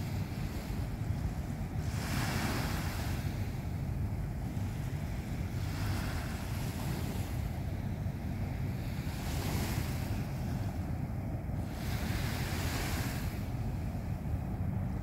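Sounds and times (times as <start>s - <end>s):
small waves washing onto beach: 0.0s - 15.0s
wind rumble on microphone: 0.0s - 15.0s.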